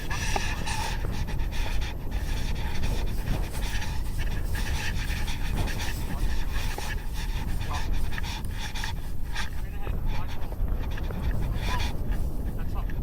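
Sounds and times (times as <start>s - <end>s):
person panting hard: 0.0s - 13.0s
steady low rumble: 0.0s - 13.0s.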